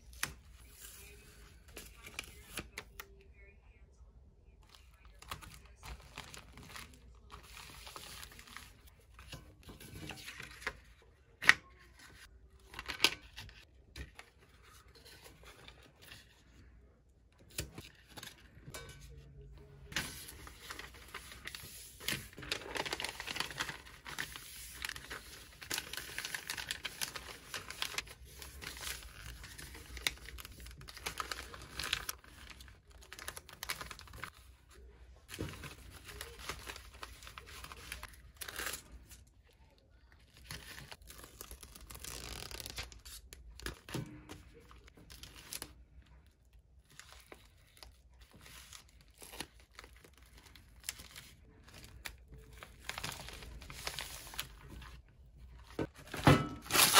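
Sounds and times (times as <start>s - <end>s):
paper rustling and crinkling: 0.0s - 3.2s, 4.7s - 16.7s, 19.6s - 56.9s.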